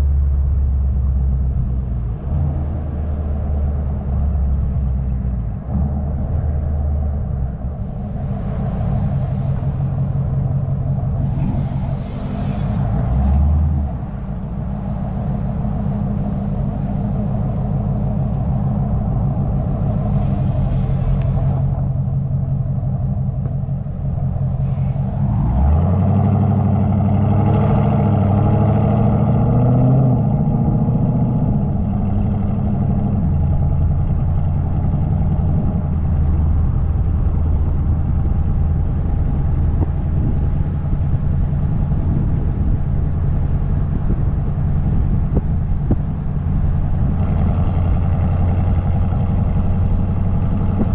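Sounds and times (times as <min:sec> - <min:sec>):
car engine droning: 0:00.0 - 0:50.9.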